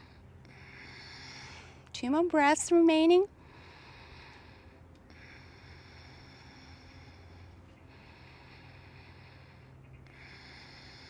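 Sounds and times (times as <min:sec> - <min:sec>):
slow hissing breaths: 0:00.0 - 0:01.9, 0:03.3 - 0:11.0.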